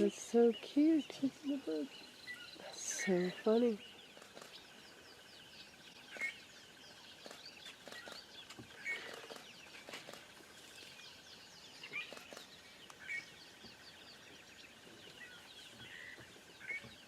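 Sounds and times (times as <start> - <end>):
loud bird calls: 0.0 - 17.0
small birds chirping: 0.0 - 17.0.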